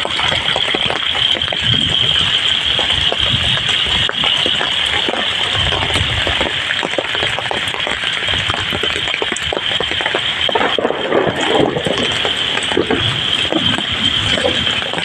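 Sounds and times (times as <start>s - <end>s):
heavy rain on water and ground: 0.0s - 15.0s.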